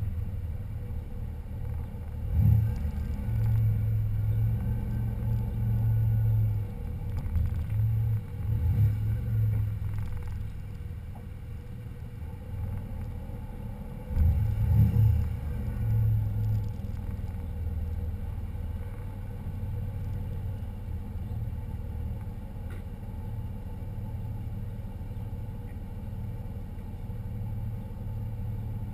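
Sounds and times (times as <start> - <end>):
car engine rumbling: 0.0 - 28.9.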